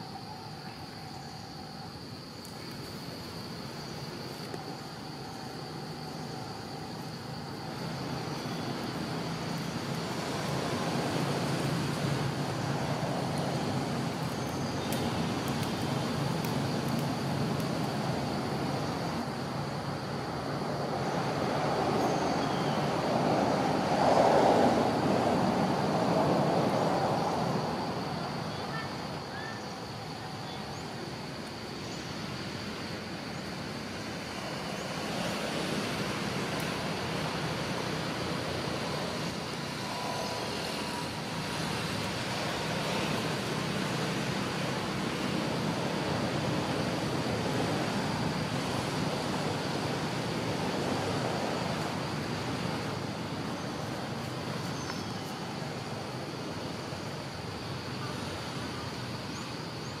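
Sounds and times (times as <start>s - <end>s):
distant traffic rumble: 0.0s - 60.0s.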